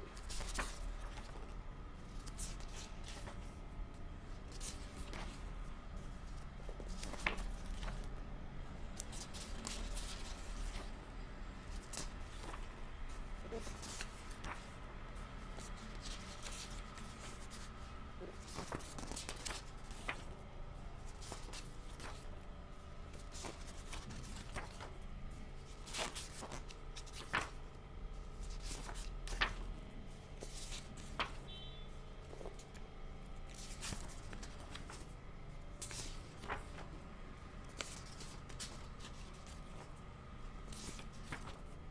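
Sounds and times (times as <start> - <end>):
book pages turning: 0.0 - 8.2, 8.8 - 20.4, 21.0 - 31.5, 32.2 - 41.9.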